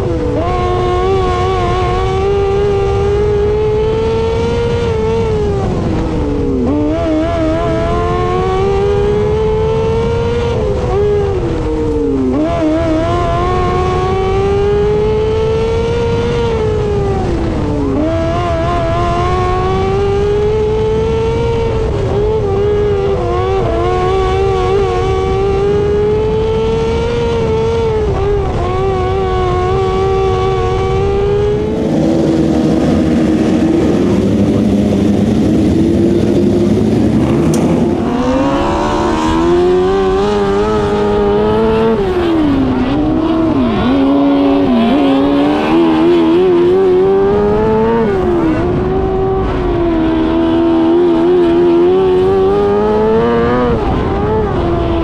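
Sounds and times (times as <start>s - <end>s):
racing engine at high revs: 0.0s - 55.0s.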